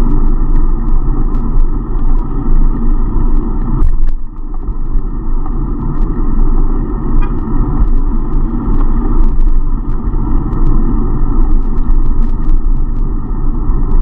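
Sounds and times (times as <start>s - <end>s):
bicycle ticks and rattles: 0.0s - 14.0s
car traffic: 0.0s - 14.0s
road rumble: 0.0s - 14.0s
wind noise: 0.0s - 14.0s.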